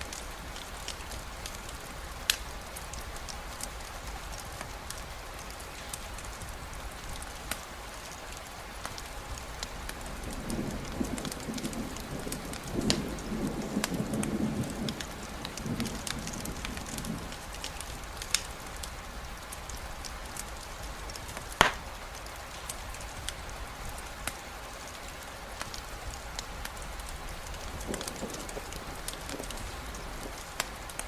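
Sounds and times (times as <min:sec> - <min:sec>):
campfire crackling: 0:00.0 - 0:31.0
steady rain: 0:00.0 - 0:31.0.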